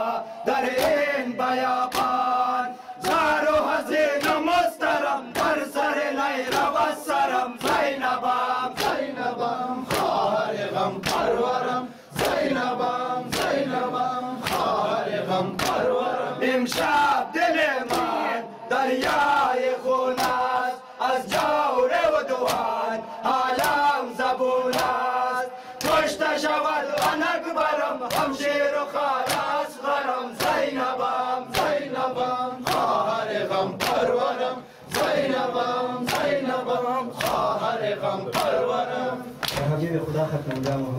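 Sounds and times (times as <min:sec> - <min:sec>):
men chanting: 0:00.0 - 0:40.4.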